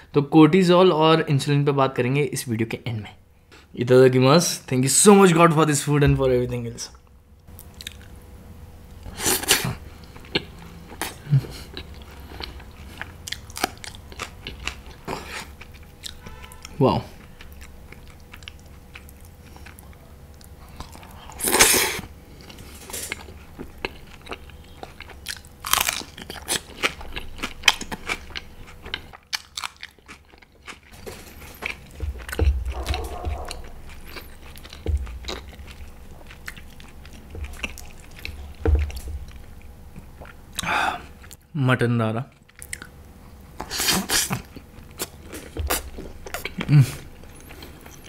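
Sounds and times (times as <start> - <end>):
chewing and biting food: 7.6 - 8.2, 9.1 - 41.4, 42.4 - 48.0.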